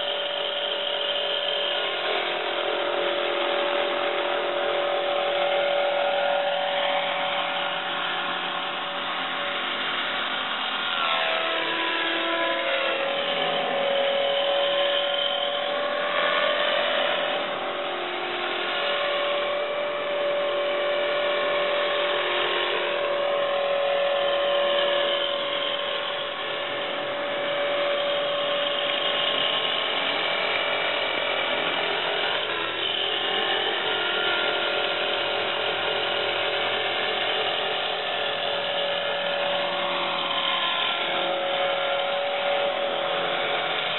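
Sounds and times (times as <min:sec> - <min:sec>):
rc helicopter whine: 0:00.0 - 0:43.9.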